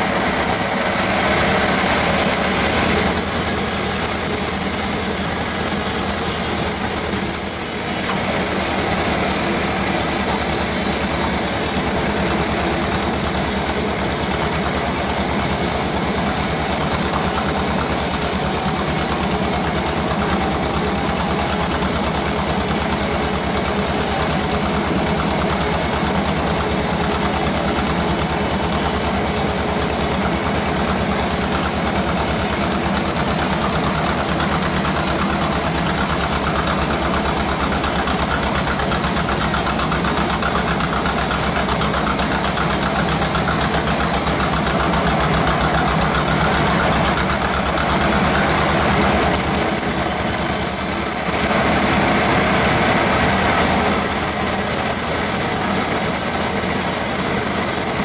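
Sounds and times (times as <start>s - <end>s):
saw blade hissing: 0.0s - 51.5s, 53.0s - 58.0s.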